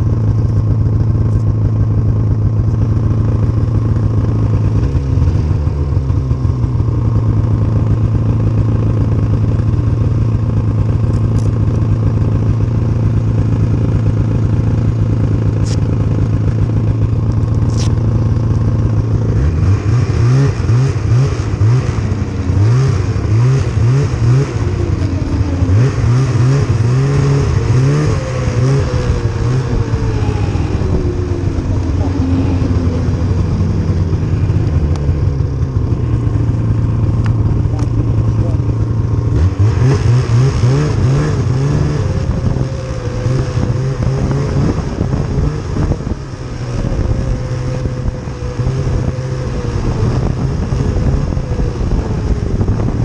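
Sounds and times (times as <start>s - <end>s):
snowmobile engine revving: 2.4s - 53.0s.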